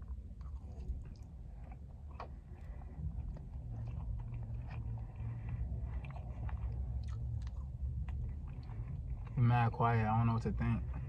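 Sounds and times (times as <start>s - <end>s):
person chewing food: 0.0s - 10.1s
low steady rumble: 0.0s - 11.0s.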